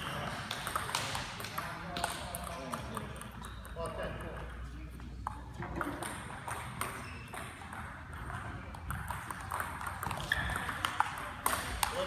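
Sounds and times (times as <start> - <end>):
table tennis ball clicking: 0.2 - 3.9, 5.2 - 12.0.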